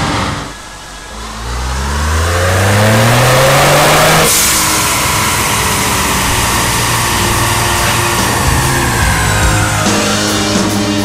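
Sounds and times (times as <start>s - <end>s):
engine revving at full throttle: 0.0s - 11.0s.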